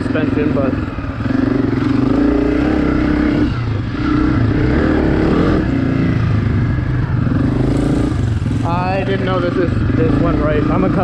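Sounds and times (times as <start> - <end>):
off-road vehicle engine: 0.0 - 11.0.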